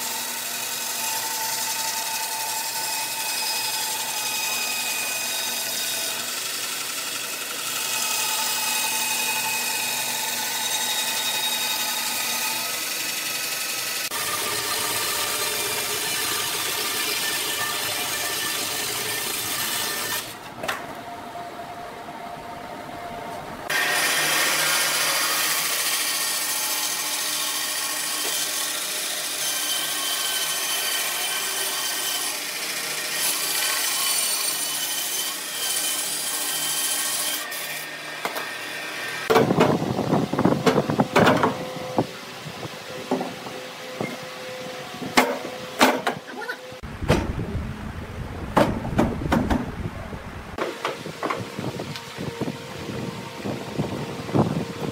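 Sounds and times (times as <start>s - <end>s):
band saw cutting log: 0.0s - 20.9s, 23.7s - 47.2s.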